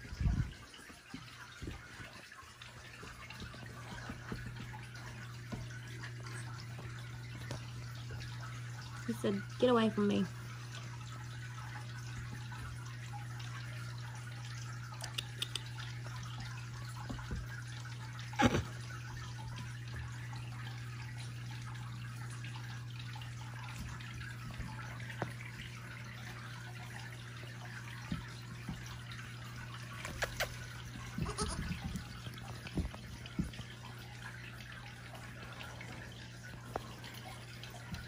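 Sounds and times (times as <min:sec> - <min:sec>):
low hum with faint hiss: 0:00.0 - 0:38.0.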